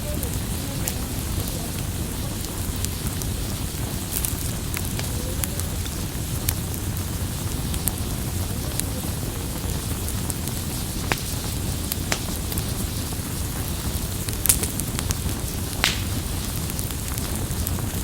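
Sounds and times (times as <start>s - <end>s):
campfire burning: 0.0s - 18.0s
wood crackling and popping: 0.0s - 18.0s.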